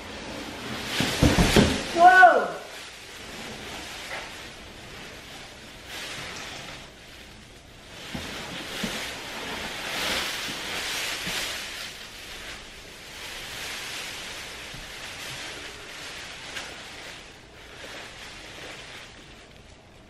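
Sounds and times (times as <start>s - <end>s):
plastic bag rustling: 0.0s - 20.0s.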